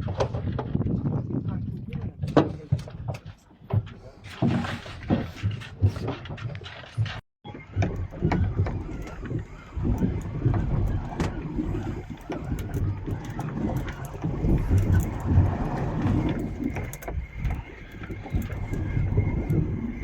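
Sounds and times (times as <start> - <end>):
boat low rumble: 0.0 - 20.0
knocks and clicks: 2.2 - 20.0.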